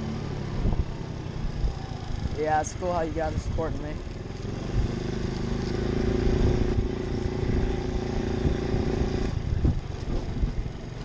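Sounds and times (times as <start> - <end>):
pit bike engine running: 0.0 - 11.0.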